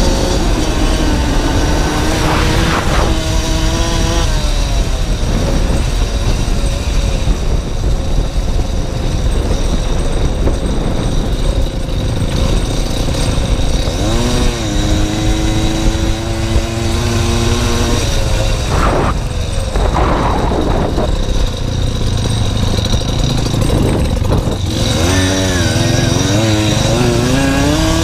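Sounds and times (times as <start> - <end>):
small motorcycle engine running: 0.0 - 28.0
wind rumble on microphone: 0.0 - 28.0.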